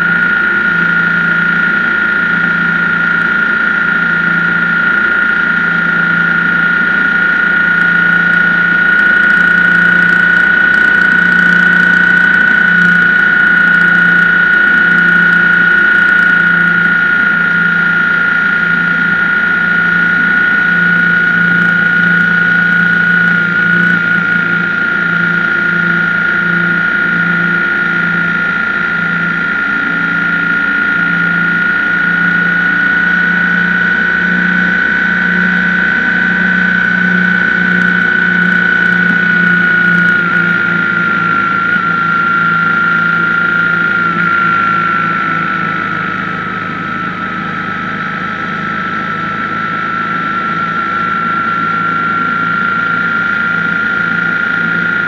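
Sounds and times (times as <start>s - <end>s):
constant high whine: 0.0s - 55.0s
motorcycle engine running: 0.0s - 55.0s.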